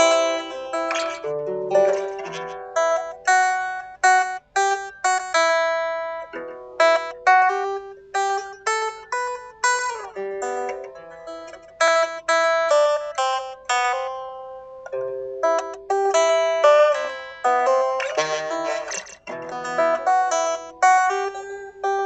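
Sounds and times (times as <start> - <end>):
plucked guitar notes: 0.0 - 22.0.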